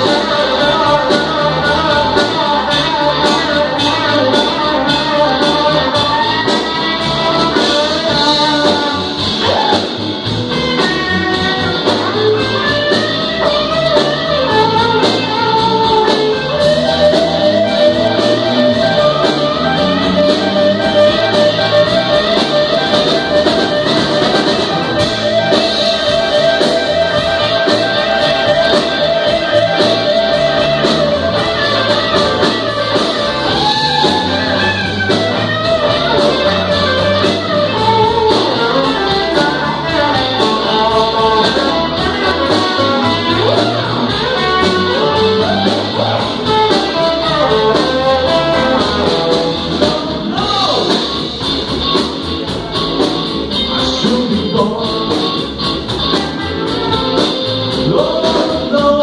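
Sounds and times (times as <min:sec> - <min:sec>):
lead guitar long wavering notes: 0:00.0 - 0:59.0
live guitar and drum jam: 0:00.0 - 0:59.0.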